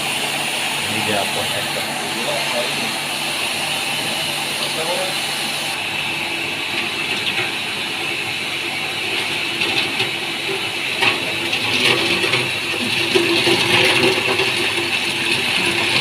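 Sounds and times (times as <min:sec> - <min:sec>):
ice machine humming and hissing: 0:00.0 - 0:16.0.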